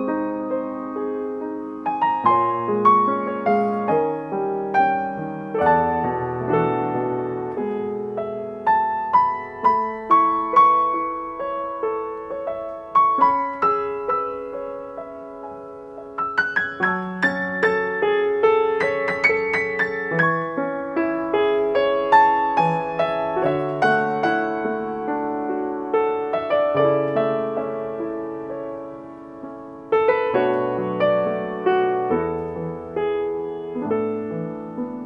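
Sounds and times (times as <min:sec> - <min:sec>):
solo grand piano melody: 0:00.0 - 0:35.0.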